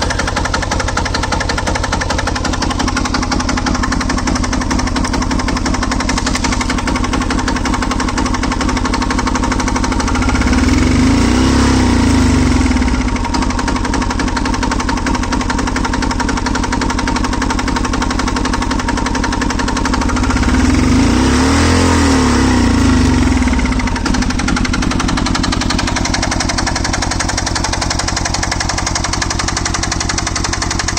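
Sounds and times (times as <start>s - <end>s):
motorcycle diesel engine revving: 0.0s - 30.9s.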